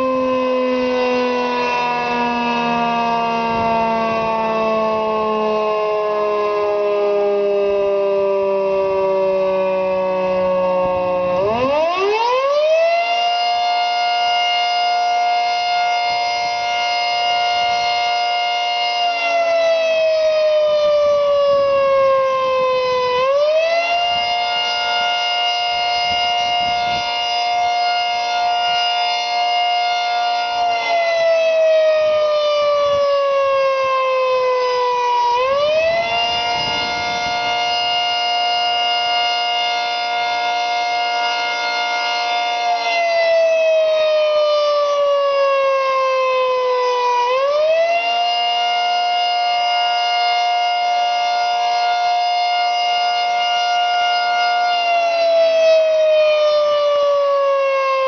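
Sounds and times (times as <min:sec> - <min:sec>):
warning siren chord: 0:00.0 - 0:58.0.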